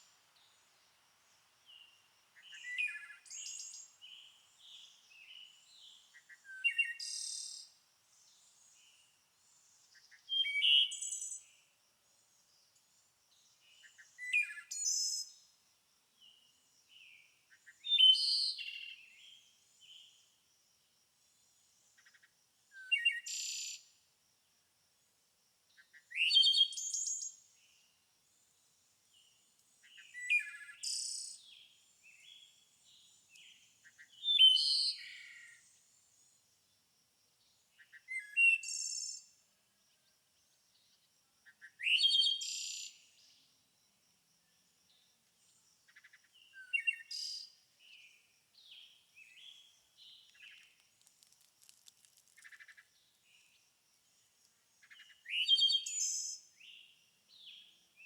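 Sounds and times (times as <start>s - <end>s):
songbird singing: 0.0s - 20.4s, 21.3s - 24.0s, 25.7s - 36.8s, 37.4s - 58.0s.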